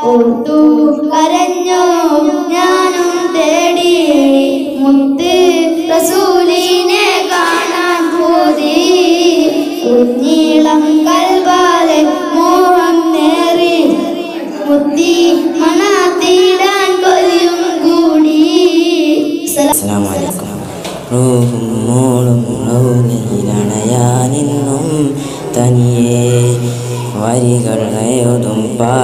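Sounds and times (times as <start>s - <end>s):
boys singing: 0.0s - 29.0s.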